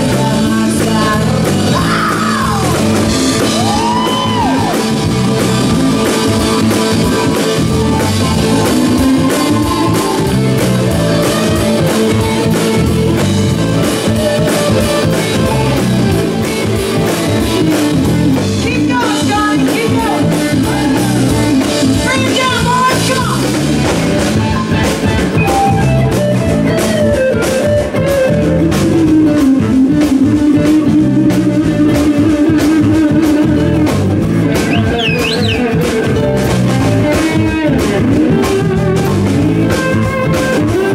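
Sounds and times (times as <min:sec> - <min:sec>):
drum kit: 0:00.0 - 0:40.9
electric guitar solo: 0:00.0 - 0:40.9.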